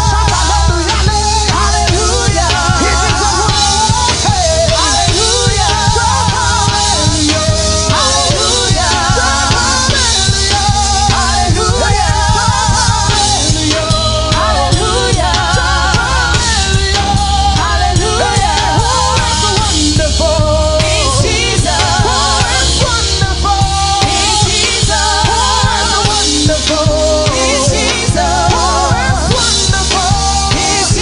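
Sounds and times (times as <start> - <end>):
bass: 0.0 - 31.0
driving drum beat: 0.0 - 31.0
person singing with vibrato: 0.0 - 31.0.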